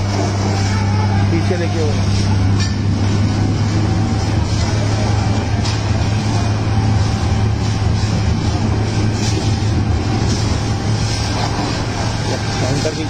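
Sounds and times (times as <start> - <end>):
engine-driven pump running: 0.0 - 13.0
fire hose jetting water: 0.0 - 13.0.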